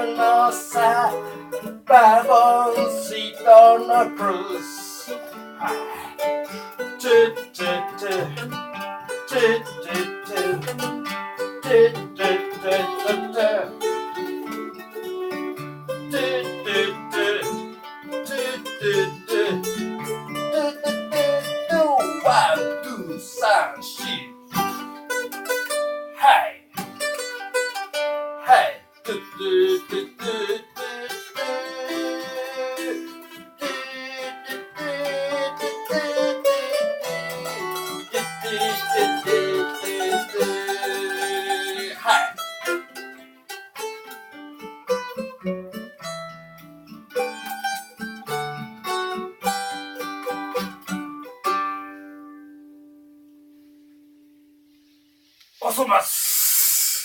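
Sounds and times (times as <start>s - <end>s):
plucked string instruments playing: 0.0s - 55.8s
acoustic blues guitar: 0.0s - 57.0s.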